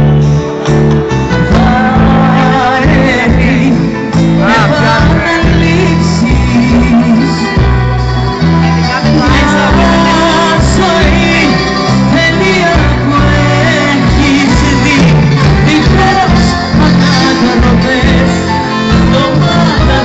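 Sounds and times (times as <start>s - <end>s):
live band playing pop song: 0.0s - 20.0s
sustained bass notes: 0.0s - 20.0s
woman singing into microphone: 1.5s - 20.0s.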